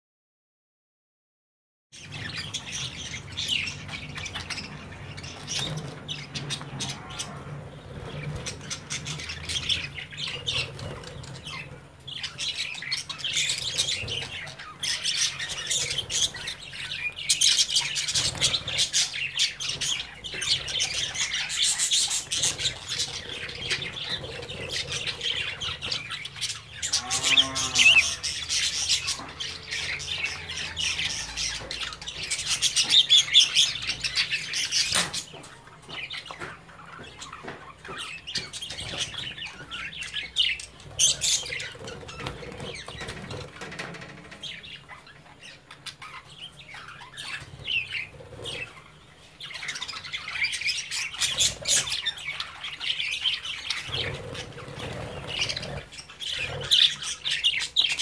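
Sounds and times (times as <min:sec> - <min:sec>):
budgerigars chattering and squawking: 0:02.0 - 0:58.0.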